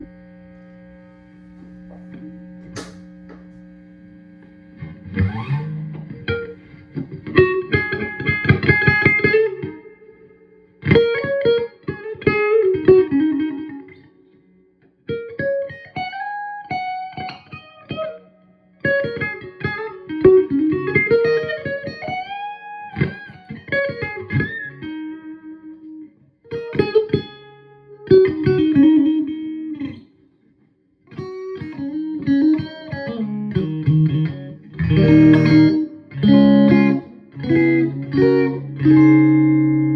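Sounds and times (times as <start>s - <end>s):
electric guitar playing: 0.0s - 30.4s, 31.0s - 39.9s.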